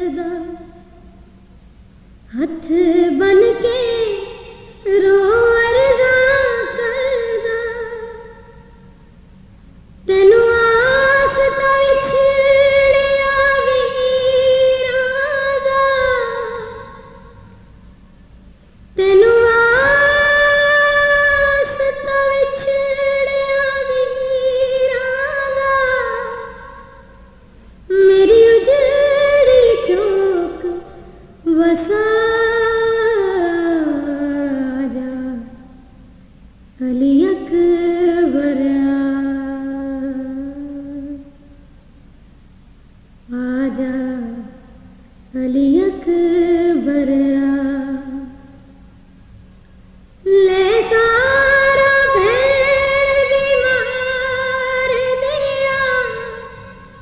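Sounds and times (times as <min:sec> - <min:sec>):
woman singing a lament: 0:00.0 - 0:00.8, 0:02.3 - 0:08.6, 0:10.1 - 0:17.4, 0:19.0 - 0:27.1, 0:27.9 - 0:35.7, 0:36.8 - 0:41.3, 0:43.3 - 0:48.5, 0:50.2 - 0:57.0.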